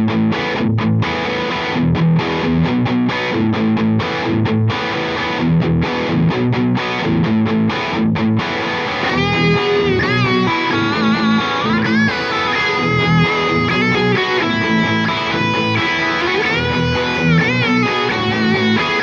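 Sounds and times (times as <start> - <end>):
distorted electric guitar riff: 0.0 - 19.0
lead guitar bending notes: 0.0 - 19.0.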